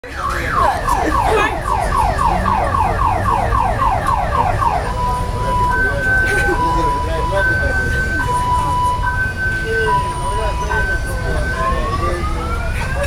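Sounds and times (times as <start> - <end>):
car alarm whooping: 0.2 - 13.0.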